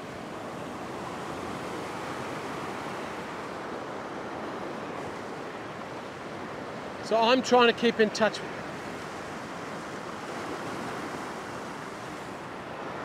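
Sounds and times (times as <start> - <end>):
surf washing over rocks: 0.0 - 13.0.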